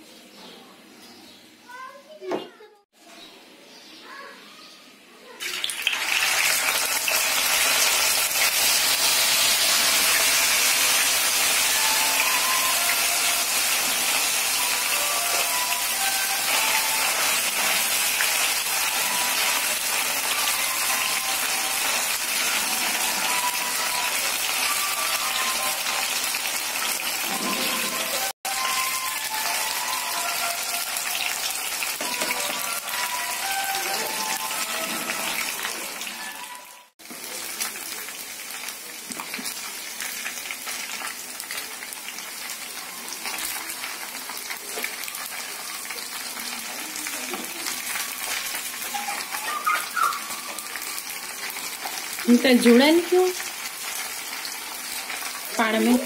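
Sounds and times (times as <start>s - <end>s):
deep-frying sizzle with pops: 5.4s - 56.0s.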